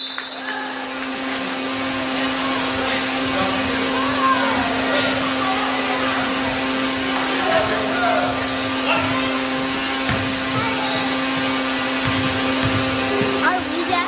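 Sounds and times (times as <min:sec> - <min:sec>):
steady rushing noise: 0:01.4 - 0:14.0.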